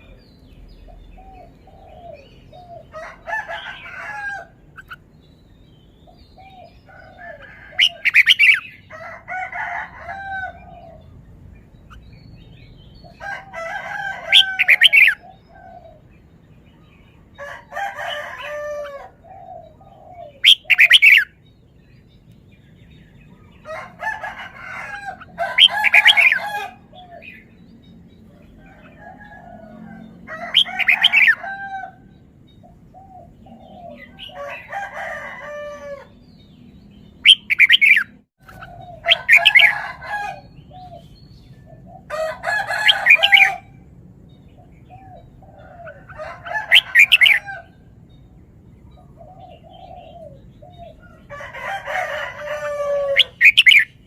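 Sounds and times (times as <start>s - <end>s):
bird singing song phrases: 0.0s - 54.0s.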